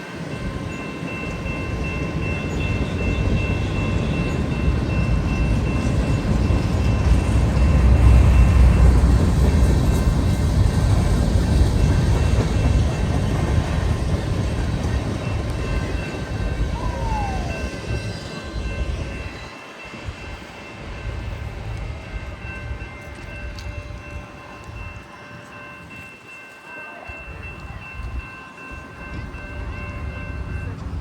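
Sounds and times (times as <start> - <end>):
crossing signal ringing: 0.0 - 31.0
freight train wheels rumbling: 0.0 - 31.0.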